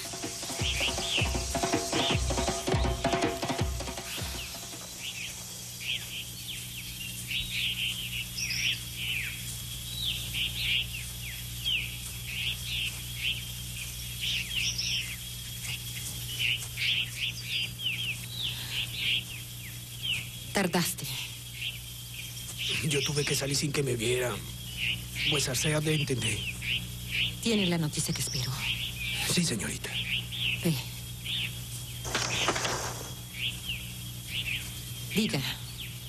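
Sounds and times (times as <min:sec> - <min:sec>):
birds chirping: 0:00.0 - 0:36.0
steady low hum: 0:02.3 - 0:36.0.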